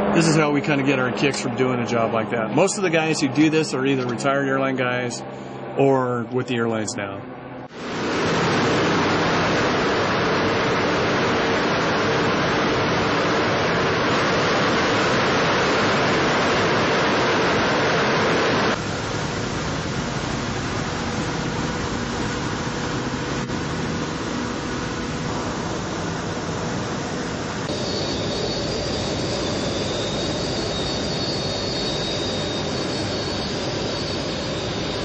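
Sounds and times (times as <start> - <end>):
aircraft radial engines running: 0.0 - 35.0.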